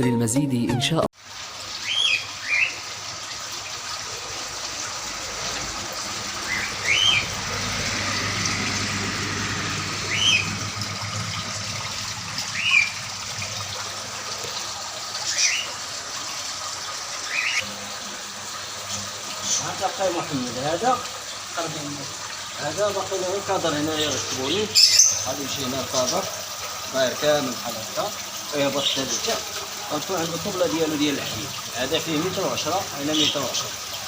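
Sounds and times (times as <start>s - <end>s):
water trickling from small waterfall: 1.2s - 34.0s.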